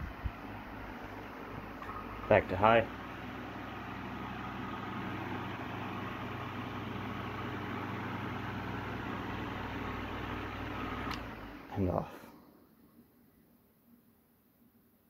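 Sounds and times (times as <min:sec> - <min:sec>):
electric fan running: 0:00.0 - 0:12.2.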